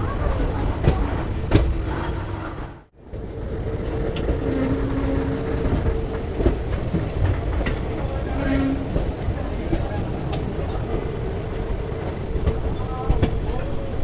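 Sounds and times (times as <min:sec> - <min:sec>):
train rumbling on rails: 0:00.0 - 0:14.0
wheels clicking on track joints: 0:00.0 - 0:14.0.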